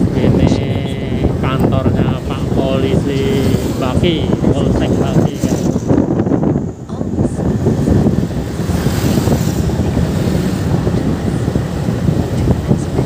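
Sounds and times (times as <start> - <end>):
motorcycle engine: 0.0 - 13.0
road rumble: 0.0 - 13.0
wind on microphone: 0.0 - 13.0.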